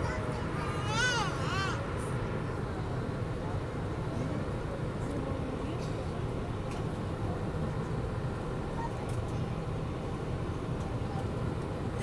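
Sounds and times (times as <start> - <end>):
jet engines idling hum: 0.0 - 12.0.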